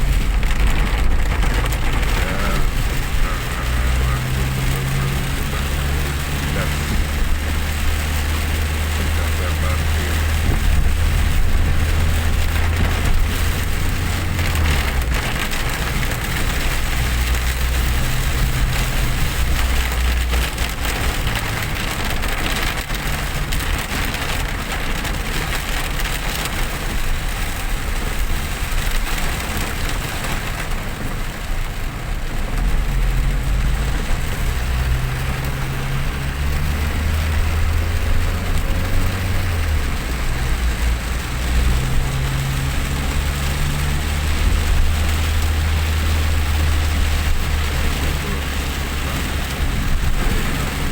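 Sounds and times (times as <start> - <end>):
engine and tyres rumbling: 0.0 - 50.9
heavy rain hissing on vehicle: 0.0 - 50.9.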